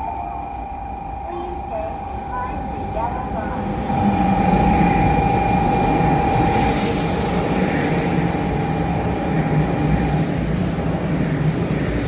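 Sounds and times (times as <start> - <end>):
steady tone: 0.0 - 9.8
train rushing noise: 1.2 - 12.0.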